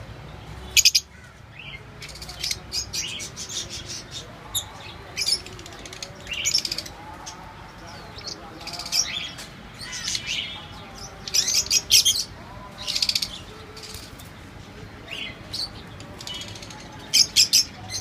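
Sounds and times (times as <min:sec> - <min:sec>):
small parrots chirping and chattering: 0:00.8 - 0:14.3, 0:15.1 - 0:18.0.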